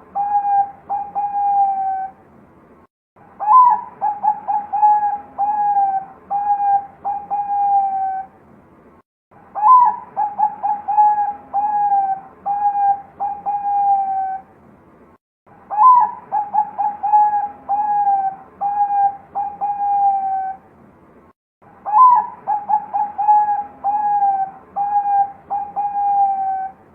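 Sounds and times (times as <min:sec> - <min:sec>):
dove cooing: 0:00.0 - 0:02.2, 0:03.4 - 0:08.3, 0:09.6 - 0:14.4, 0:15.7 - 0:20.6, 0:21.8 - 0:26.8.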